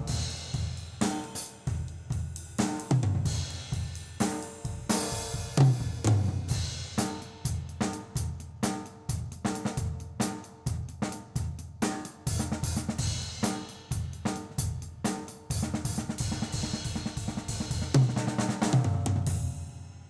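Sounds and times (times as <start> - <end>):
drum kit playing: 0.0 - 20.0.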